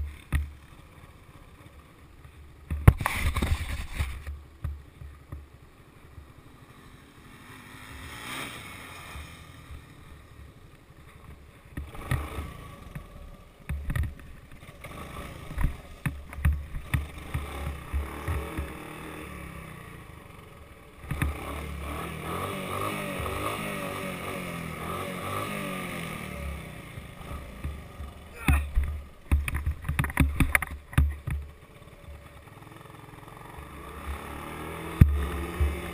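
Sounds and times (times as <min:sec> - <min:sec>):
three-wheeler engine running: 0:00.0 - 0:35.9.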